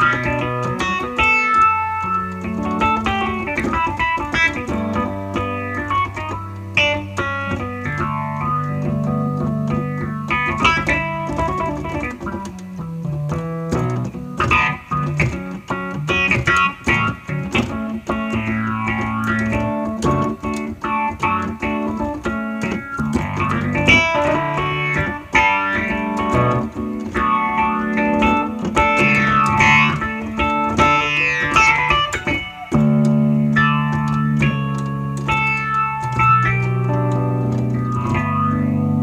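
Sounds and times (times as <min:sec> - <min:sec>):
electric piano with phaser: 0:00.0 - 0:39.0
keyboard keys clacking: 0:00.0 - 0:39.0.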